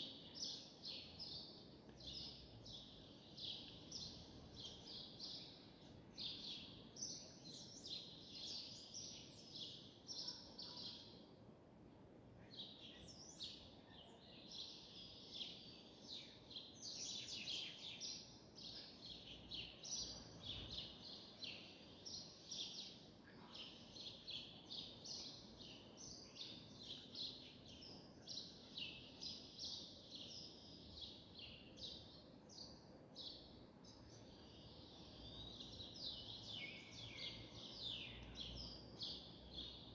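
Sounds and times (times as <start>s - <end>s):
small birds chirping: 0.0s - 11.4s, 12.4s - 39.9s.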